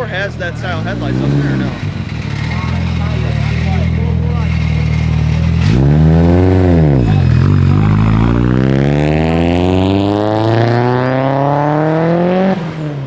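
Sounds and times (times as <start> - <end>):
car engine revving and accelerating: 0.2 - 13.0.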